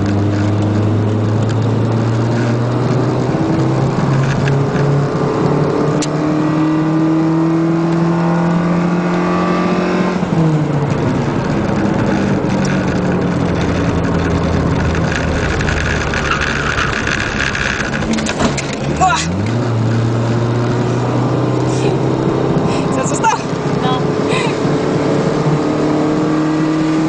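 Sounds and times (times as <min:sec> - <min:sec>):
race car engine pulling hard: 0:00.0 - 0:27.0
wind and road noise: 0:00.0 - 0:27.0.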